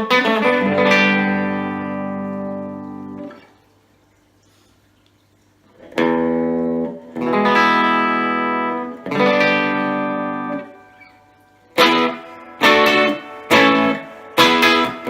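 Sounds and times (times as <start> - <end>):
electric guitar chords strummed: 0.0 - 3.6, 5.8 - 15.0.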